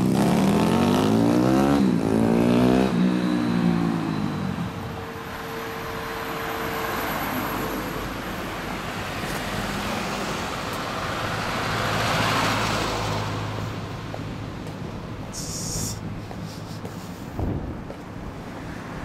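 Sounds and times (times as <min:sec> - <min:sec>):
vehicles passing close by: 0:00.0 - 0:19.0.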